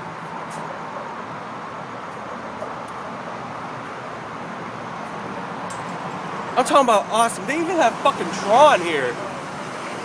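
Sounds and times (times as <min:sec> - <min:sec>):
passing traffic: 0:00.0 - 0:10.0.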